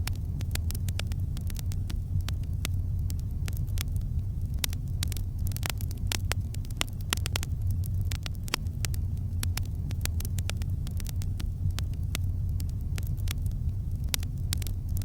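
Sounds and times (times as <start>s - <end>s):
campfire crackles and pops: 0.0s - 15.0s
low fire rumble: 0.0s - 15.0s.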